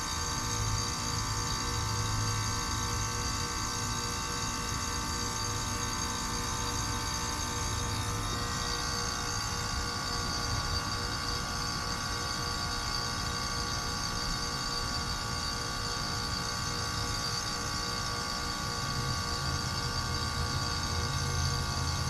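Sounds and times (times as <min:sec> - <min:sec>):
heat pump mechanical hum: 0:00.0 - 0:22.0.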